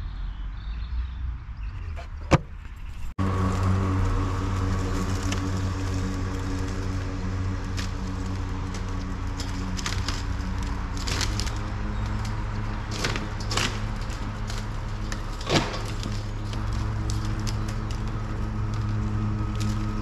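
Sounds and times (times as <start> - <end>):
lawn mower cutting grass: 3.2 - 20.0.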